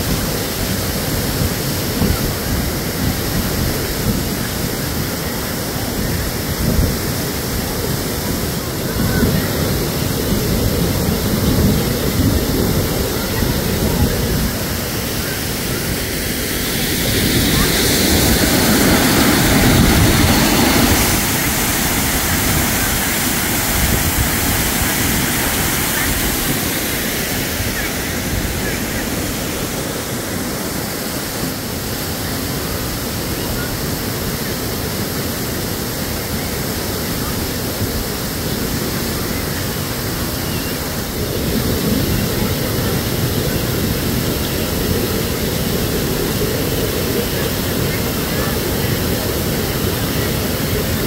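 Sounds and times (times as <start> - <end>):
waterfall rushing over rock: 0.0 - 51.0.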